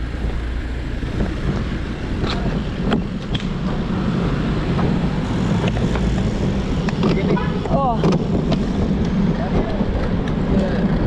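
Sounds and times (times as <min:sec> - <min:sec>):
road rumble: 0:00.0 - 0:11.0
wind buffeting microphone: 0:00.0 - 0:11.0.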